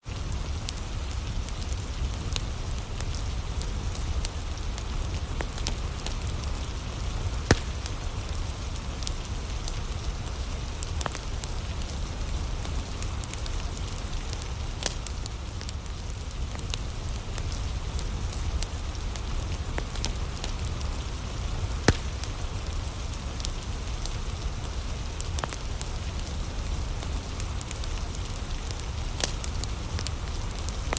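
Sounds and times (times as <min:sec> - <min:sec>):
wood fire crackling: 0:00.0 - 0:30.9
fire popping: 0:00.1 - 0:30.9
rain pattering: 0:00.1 - 0:30.9.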